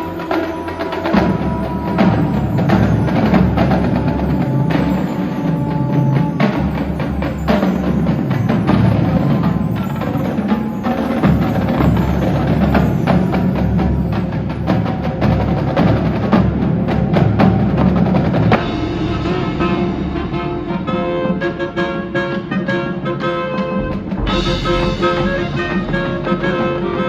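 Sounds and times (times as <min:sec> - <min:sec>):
low held brass notes: 0:00.0 - 0:13.6, 0:18.5 - 0:27.0
drums: 0:00.0 - 0:27.0
sharp clicking percussion: 0:00.0 - 0:27.0.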